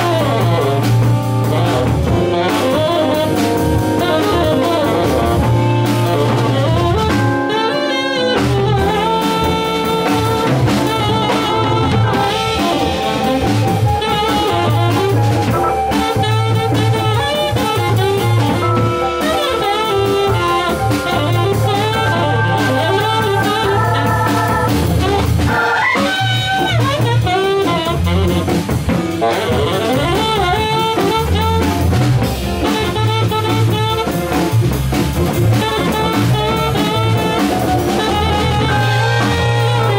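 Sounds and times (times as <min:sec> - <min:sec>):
bass line: 0:00.0 - 0:39.9
drum kit: 0:00.0 - 0:39.9
electric guitar: 0:00.0 - 0:39.9
electric organ: 0:00.0 - 0:39.9
saxophone melody: 0:00.0 - 0:39.9.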